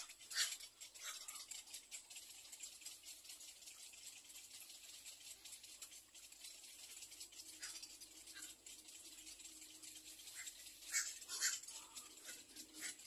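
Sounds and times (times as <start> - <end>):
light crackling: 0.0 - 13.0.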